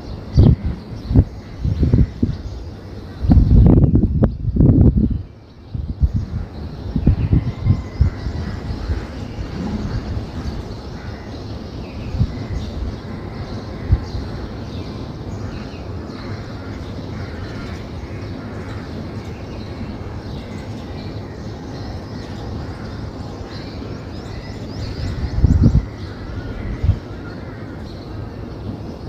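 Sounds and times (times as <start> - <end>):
small birds chirping: 0.0 - 29.0
steady low rumble: 0.0 - 29.0.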